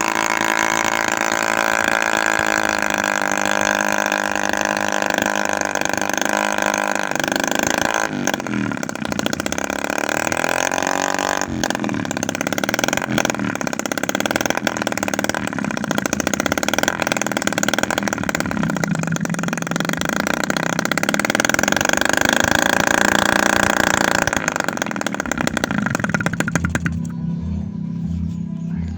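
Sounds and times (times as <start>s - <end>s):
small two-stroke engine revving: 0.0s - 28.9s.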